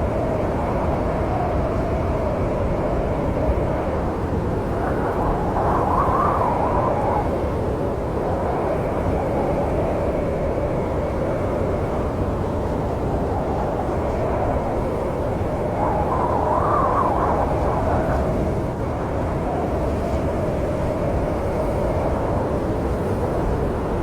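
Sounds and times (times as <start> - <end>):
wind blowing with moaning whistle: 0.0 - 24.0.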